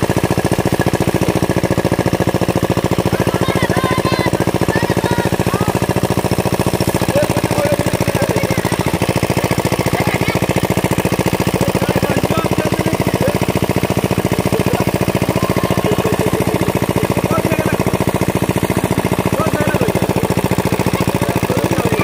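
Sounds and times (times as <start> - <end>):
small diesel engine chugging: 0.0 - 22.0.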